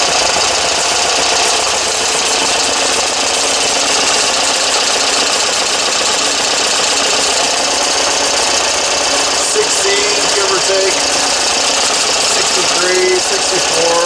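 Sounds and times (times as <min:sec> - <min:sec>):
petrol engine idling: 0:00.0 - 0:14.0.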